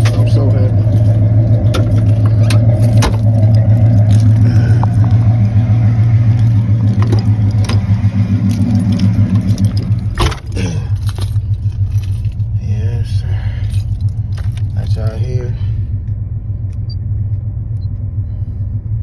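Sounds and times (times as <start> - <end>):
subwoofer playing deep bass: 0.0 - 19.0.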